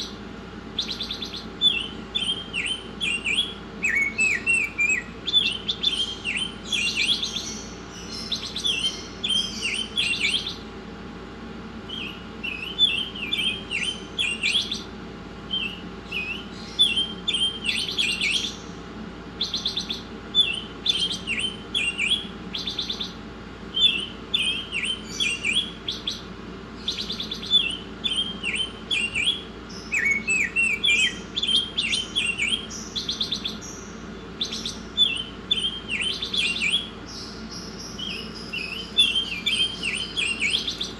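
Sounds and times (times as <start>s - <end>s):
faint low hum: 0.0s - 40.9s
songbird singing chirps and trills: 0.0s - 40.9s.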